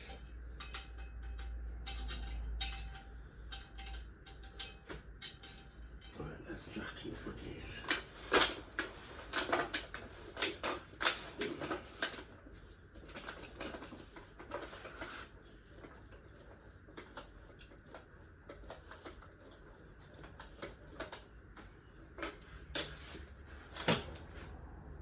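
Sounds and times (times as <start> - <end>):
clicks and knocks of hand work: 0.0 - 6.4, 7.3 - 25.0.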